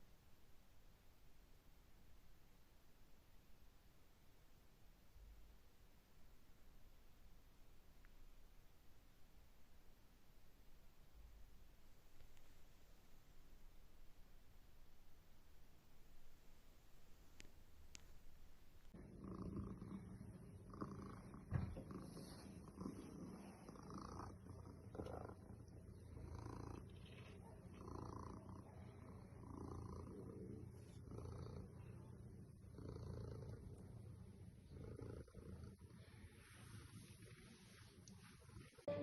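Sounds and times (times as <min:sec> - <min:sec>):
cat purring: 0:04.8 - 0:39.0.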